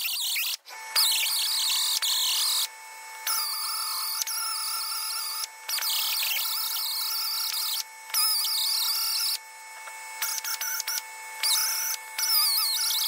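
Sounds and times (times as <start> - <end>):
die grinder whining: 0.0 - 13.0.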